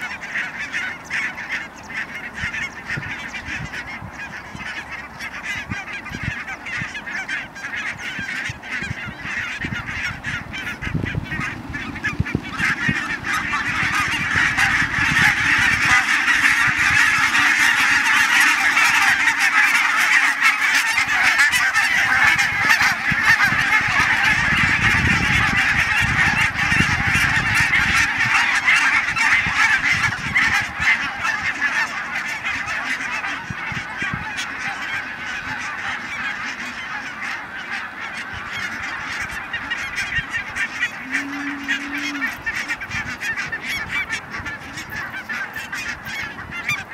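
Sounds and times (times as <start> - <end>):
geese calling: 0.0 - 46.9.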